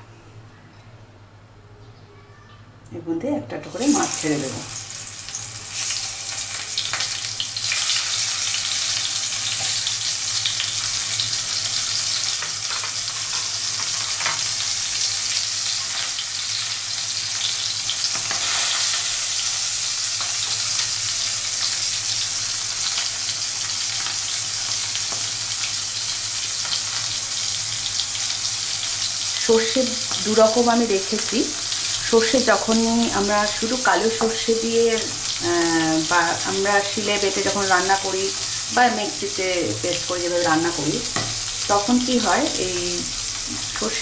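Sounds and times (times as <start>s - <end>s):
fish sizzling in hot oil: 3.8s - 44.0s.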